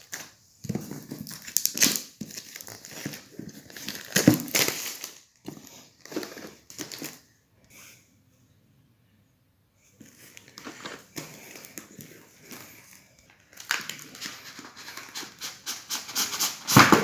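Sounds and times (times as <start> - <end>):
packaging rustling and crinkling: 0.0 - 7.2, 10.0 - 17.0.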